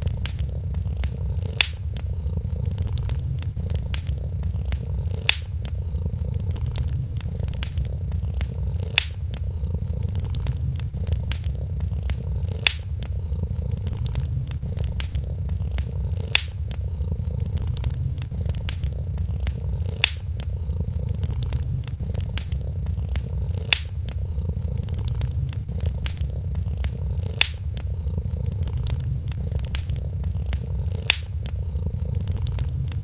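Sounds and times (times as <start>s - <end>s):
cat purring: 0.0s - 33.0s
fire pops: 0.0s - 33.0s
wood fire crackling: 0.0s - 33.0s.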